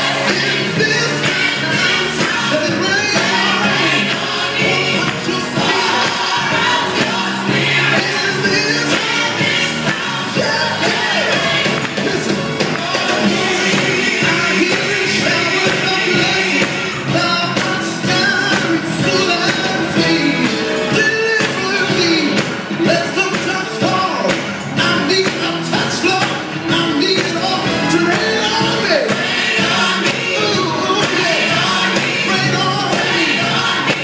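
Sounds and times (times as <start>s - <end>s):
rock band playing with drums: 0.0s - 34.0s.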